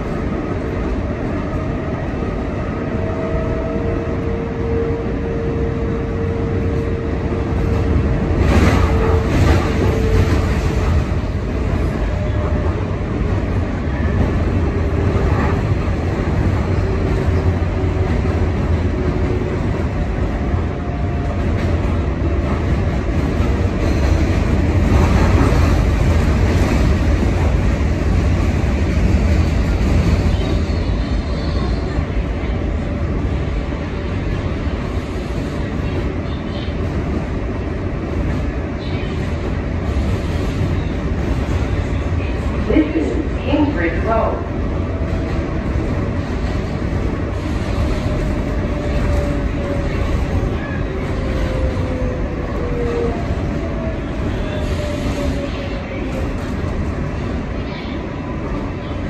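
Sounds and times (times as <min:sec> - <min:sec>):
subway wheels rumbling on rail: 0:00.0 - 0:59.0.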